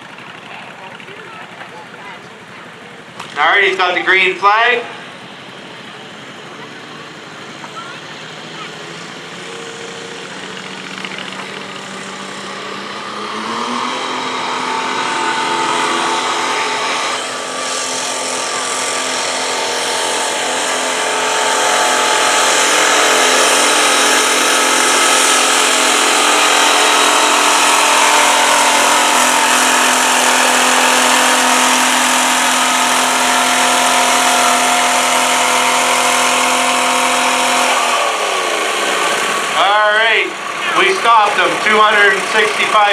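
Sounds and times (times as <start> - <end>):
tractor engine under load: 0.0 - 42.9.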